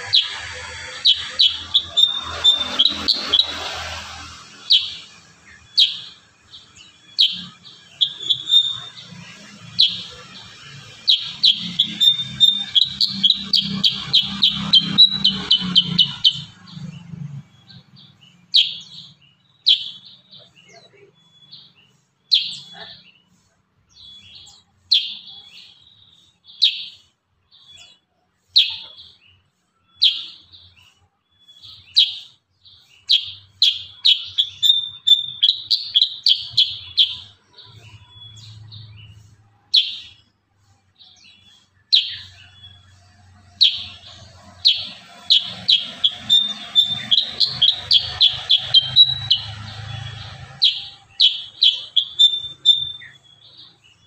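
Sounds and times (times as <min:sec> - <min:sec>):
bird singing whistled notes: 0:00.0 - 0:23.3, 0:23.9 - 0:40.4, 0:41.0 - 0:54.0.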